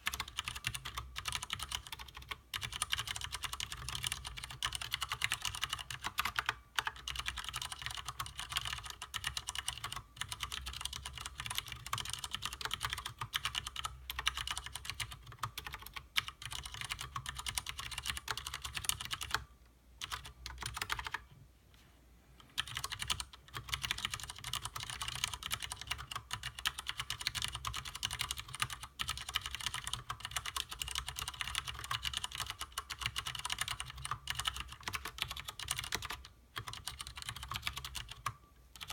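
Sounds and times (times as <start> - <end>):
fast typing on mechanical keyboard: 0.0 - 21.2, 22.6 - 38.9.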